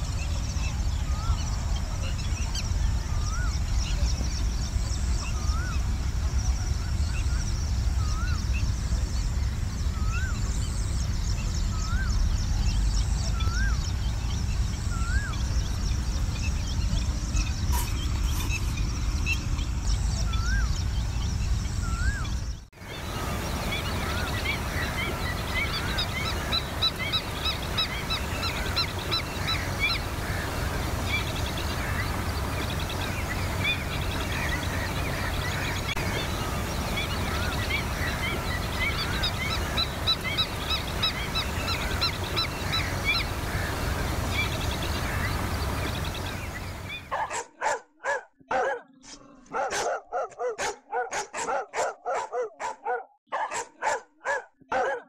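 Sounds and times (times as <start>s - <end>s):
birds calling: 0.0s - 55.0s.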